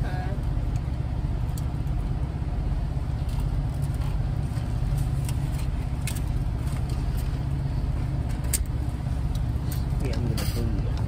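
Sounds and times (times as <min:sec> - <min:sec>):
vehicle idling: 0:00.0 - 0:11.0.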